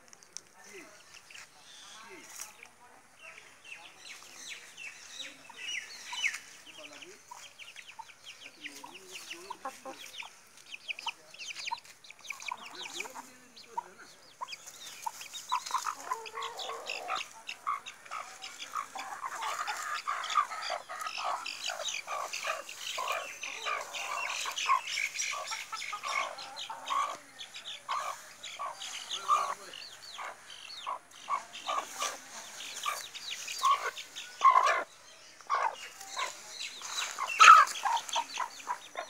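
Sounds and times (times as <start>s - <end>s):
chickens clucking: 0.6s - 39.0s.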